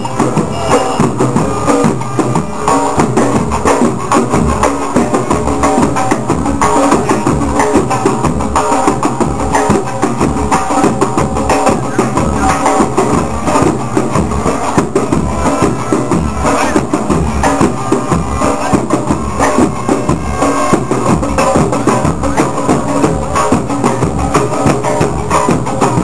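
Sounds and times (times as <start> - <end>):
bass drum beat: 0.0 - 26.0
block percussion: 0.0 - 26.0
pitched sounds: 0.0 - 26.0
snare drum: 0.0 - 26.0.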